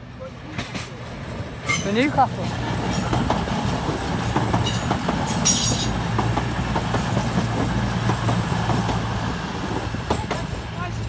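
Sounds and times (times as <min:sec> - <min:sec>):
train diesel engines humming: 0:00.0 - 0:11.0.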